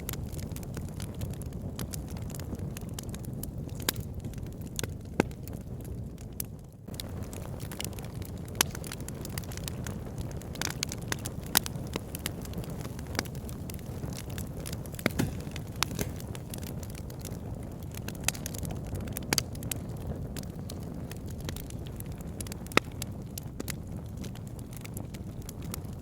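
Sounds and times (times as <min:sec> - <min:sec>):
fire crackling and popping: 0:00.0 - 0:26.0
fire rumbling: 0:00.0 - 0:26.0
wood snapping in fire: 0:00.0 - 0:26.0.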